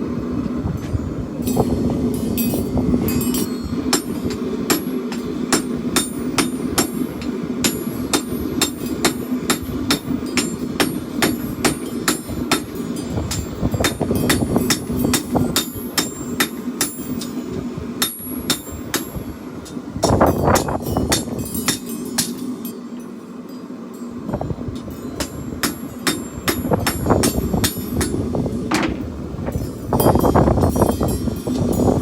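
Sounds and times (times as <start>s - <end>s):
steady low hum: 0.0s - 32.0s
hammer striking steel on anvil: 1.5s - 23.1s, 24.7s - 32.0s.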